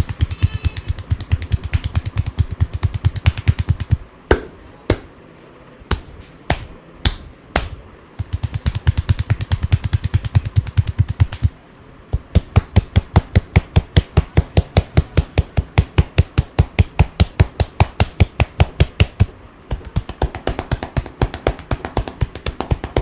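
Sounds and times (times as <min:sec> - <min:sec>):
hands slapping on body: 0:00.0 - 0:05.1, 0:05.9 - 0:23.0.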